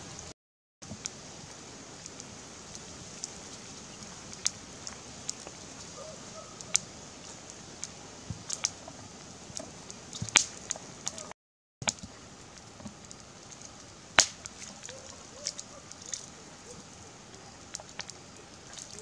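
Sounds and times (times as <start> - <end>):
steady hiss: 0.0 - 19.0
wood fire crackling and popping: 0.0 - 19.0.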